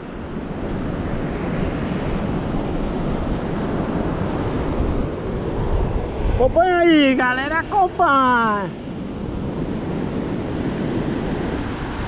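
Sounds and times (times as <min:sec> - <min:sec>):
ocean surf on beach: 0:00.0 - 0:12.0
wind buffeting microphone: 0:00.0 - 0:12.0.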